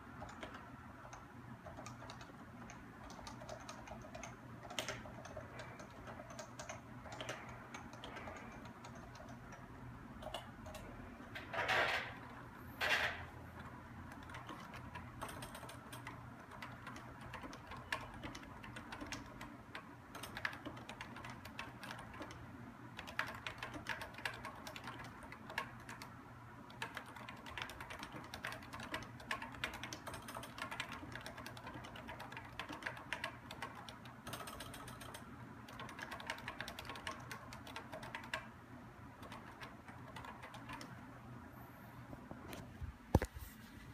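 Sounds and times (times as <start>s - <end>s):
keyboard typing: 0.0s - 41.1s.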